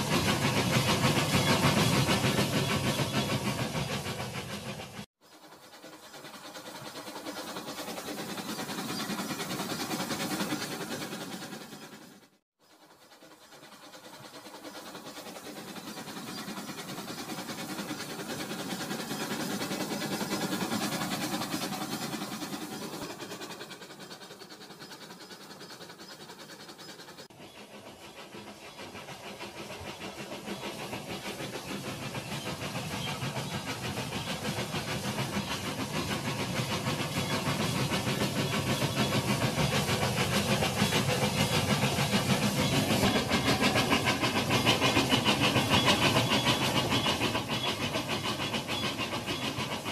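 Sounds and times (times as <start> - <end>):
hissing steam sound effect: 0.0 - 49.9
toy train motor and wheels rattling: 5.3 - 49.9.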